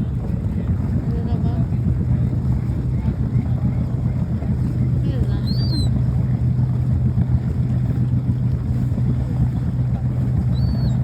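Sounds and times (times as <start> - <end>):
low motor drone: 0.0 - 11.0.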